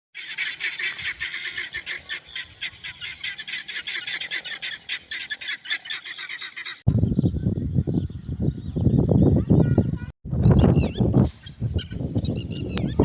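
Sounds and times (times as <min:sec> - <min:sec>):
birds chirping: 0:00.2 - 0:13.0.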